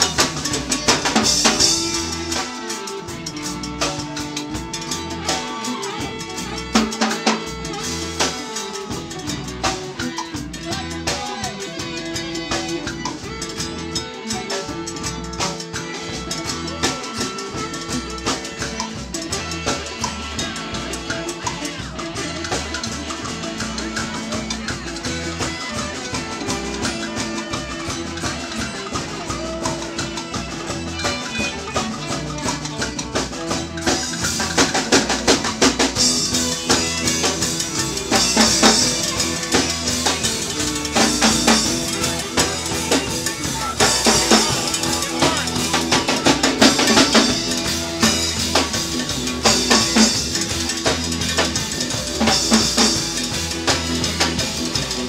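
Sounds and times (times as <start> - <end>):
drum kit steady beat: 0.0 - 55.0
guitars: 0.0 - 55.0.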